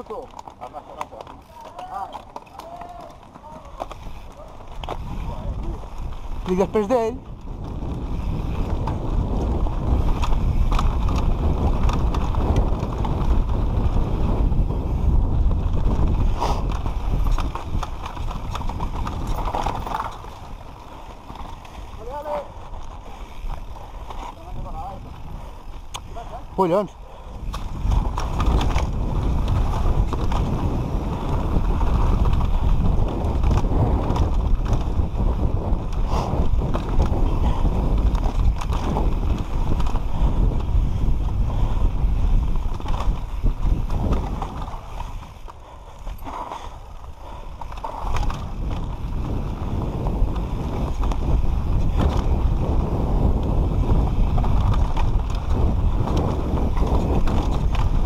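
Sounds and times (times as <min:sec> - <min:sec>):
bike rattling over bumps: 0:00.0 - 0:58.0
tyres rolling on dirt: 0:00.0 - 0:58.0
wind rushing over microphone: 0:02.8 - 0:58.0.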